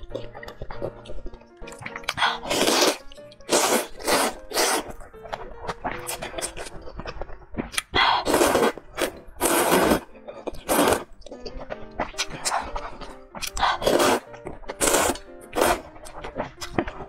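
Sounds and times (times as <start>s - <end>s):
background music: 0.0s - 17.0s
noodles slurped loudly: 1.7s - 7.1s, 7.7s - 17.0s.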